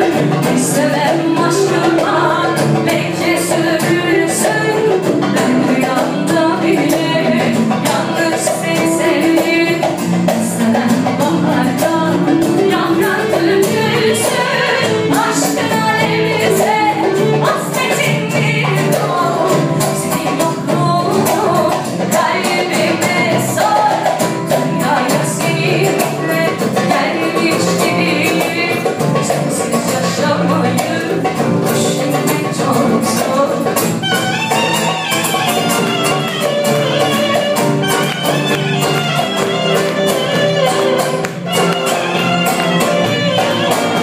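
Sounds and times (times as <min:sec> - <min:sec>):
acoustic guitar: 0:00.0 - 0:44.0
light percussion beat: 0:00.0 - 0:44.0
woman singing: 0:00.0 - 0:44.0.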